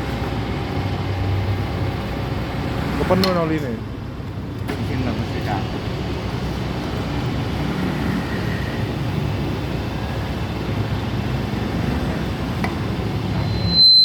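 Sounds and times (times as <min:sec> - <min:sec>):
machine humming and rumbling: 0:00.0 - 0:14.0.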